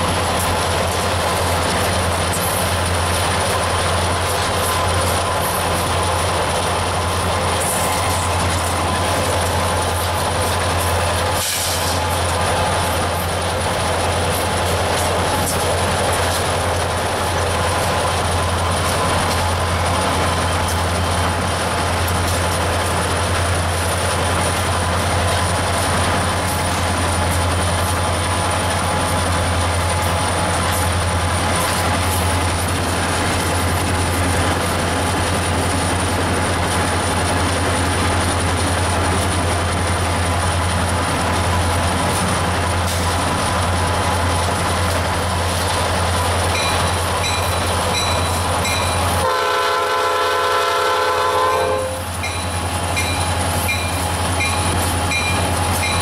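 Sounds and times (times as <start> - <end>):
diesel locomotive engine rumble: 0.0 - 56.0
train wheel and rail noise: 0.0 - 56.0.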